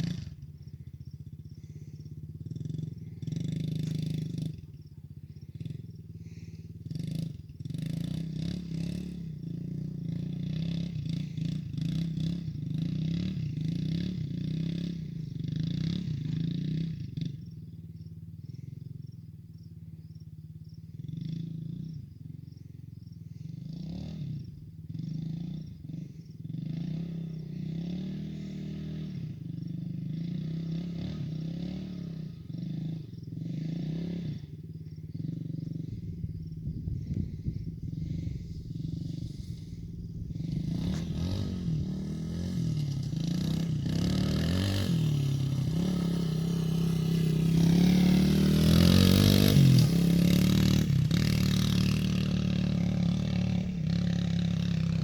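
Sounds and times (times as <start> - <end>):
motorbike engine revving: 0.0 - 17.7, 23.3 - 55.0.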